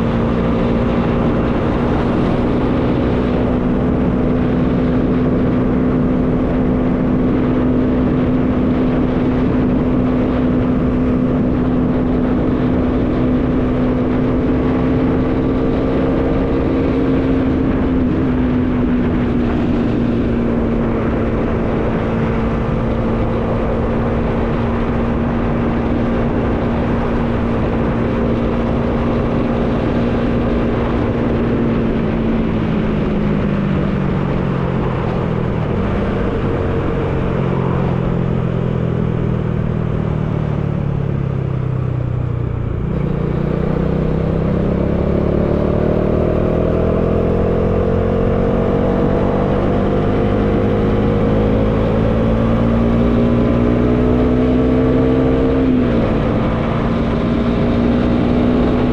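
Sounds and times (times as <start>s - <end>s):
motorcycle engine cruising: 0.0s - 58.9s
wind noise: 0.0s - 58.9s.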